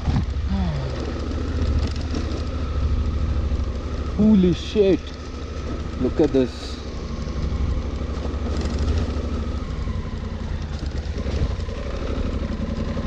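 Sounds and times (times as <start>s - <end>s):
motorcycle engine running: 0.0s - 13.0s
road noise: 0.0s - 13.0s.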